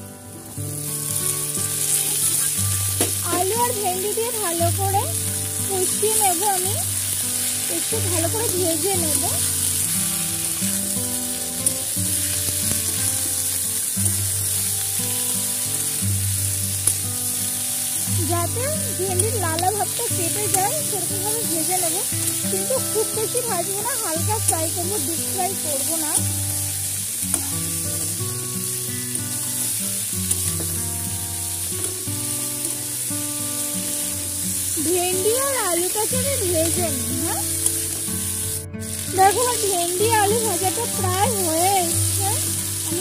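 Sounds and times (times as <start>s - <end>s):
vegetables sizzling in oil: 0.0s - 43.0s
soft background music: 2.9s - 27.1s, 31.2s - 43.0s.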